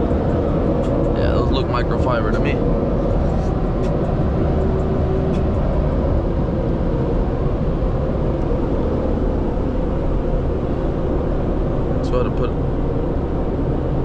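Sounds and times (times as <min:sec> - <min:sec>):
car wash machinery running: 0:00.0 - 0:14.0.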